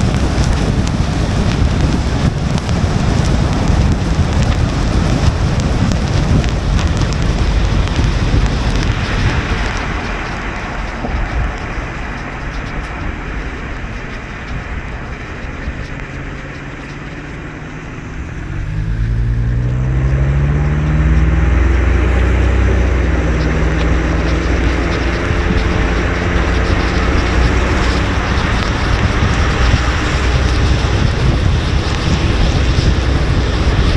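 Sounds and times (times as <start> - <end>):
car engine accelerating: 0.0 - 33.9
car tyres on wet road: 0.0 - 33.9
rain hissing: 0.0 - 33.9.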